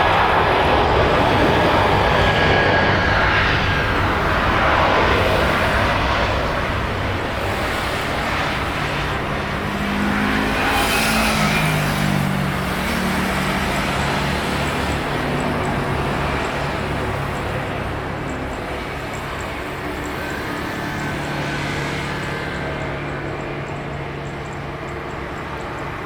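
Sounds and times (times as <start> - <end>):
jet airliner engine noise: 0.0 - 26.0.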